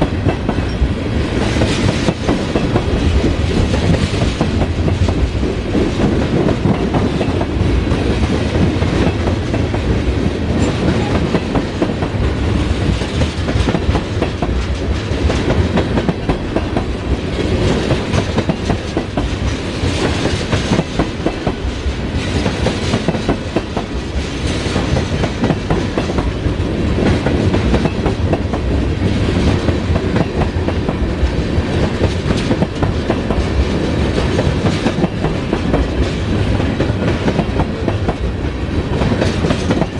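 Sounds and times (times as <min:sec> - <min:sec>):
train wheels rumbling on rail: 0:00.0 - 0:39.9
wheels clacking over rail joints: 0:00.0 - 0:39.9.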